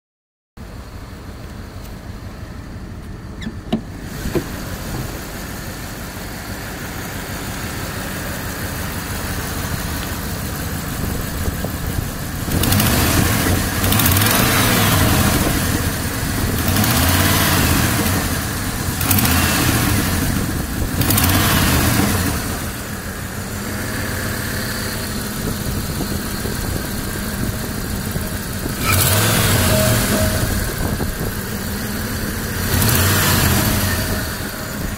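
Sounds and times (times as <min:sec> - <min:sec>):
engine chattering noise: 0:00.6 - 0:34.9
engine idling and revving: 0:00.6 - 0:34.9.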